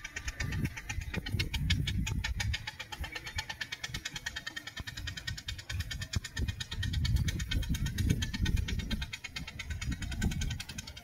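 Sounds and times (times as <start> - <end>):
steam engine exhaust beating: 0.0 - 11.0.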